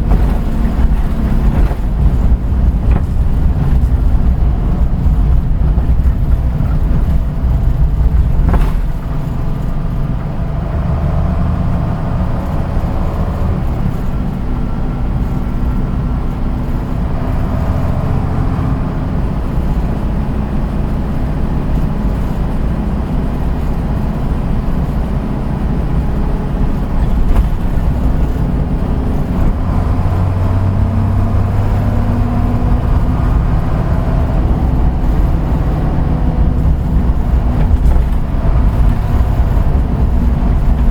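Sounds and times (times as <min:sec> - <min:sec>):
bus engine rumble: 0:00.0 - 0:40.9
faint drivetrain whine: 0:00.0 - 0:40.9.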